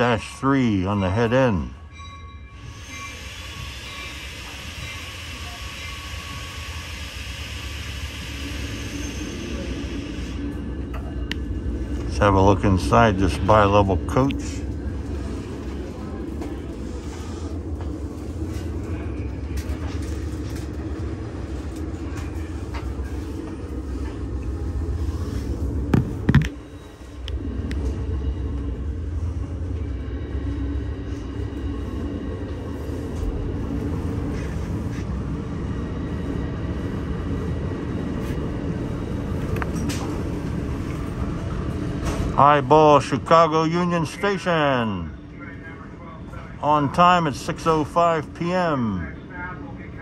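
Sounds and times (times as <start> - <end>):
diesel train engine rumble: 0.0 - 50.0.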